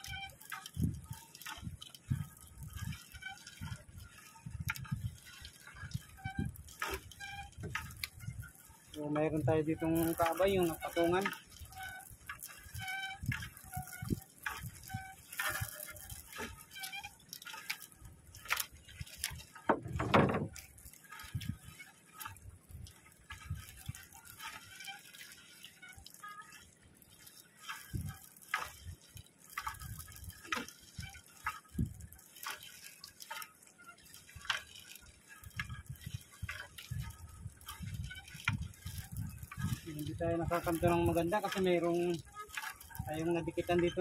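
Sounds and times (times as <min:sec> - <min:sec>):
water dripping and splashing: 0:00.0 - 0:44.0.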